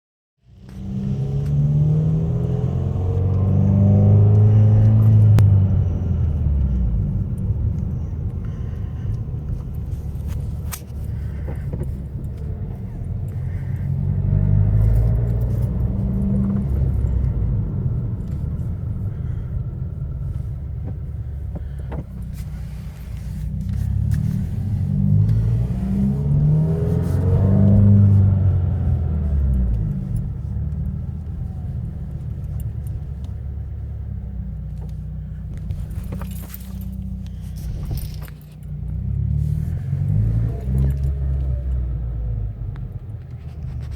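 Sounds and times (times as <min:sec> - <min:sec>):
car engine revving: 0:00.5 - 0:43.9.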